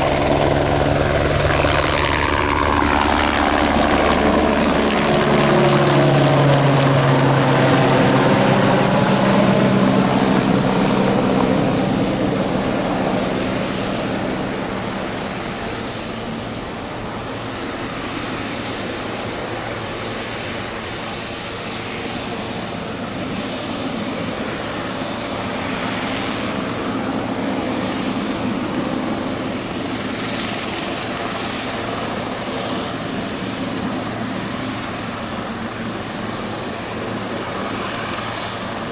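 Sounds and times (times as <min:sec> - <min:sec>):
helicopter passing: 0:00.0 - 0:38.9.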